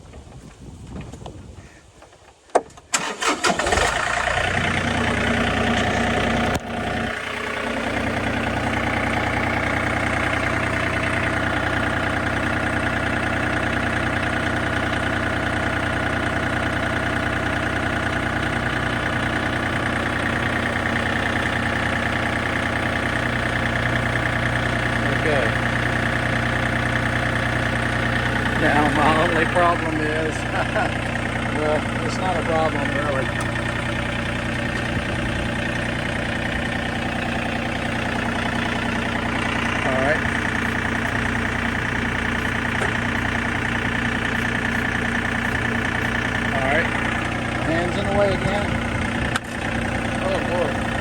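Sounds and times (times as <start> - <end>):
tractor engine running: 0.0 - 51.0
tractor starter cranking: 2.5 - 51.0.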